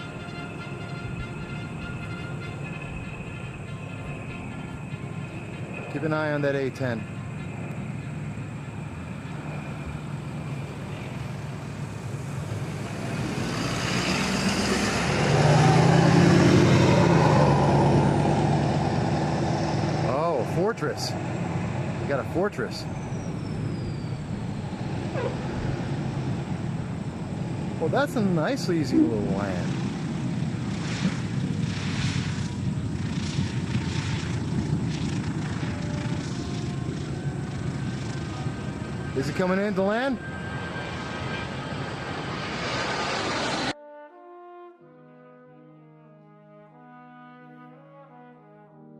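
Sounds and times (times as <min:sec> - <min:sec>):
jet engine rumble with whine: 0:00.0 - 0:43.8.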